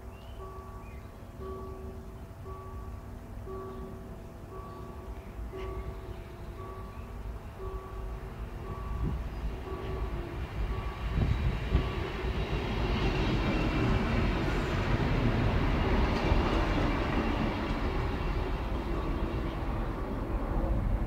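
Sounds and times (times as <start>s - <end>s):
diesel train passing: 0.0s - 21.0s
crossing warning tone beeping: 0.4s - 20.1s.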